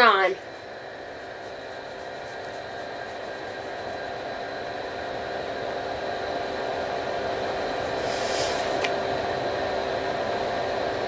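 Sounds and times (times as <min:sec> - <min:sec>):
hum: 0:00.0 - 0:11.0
space heater fan whir: 0:00.0 - 0:11.0.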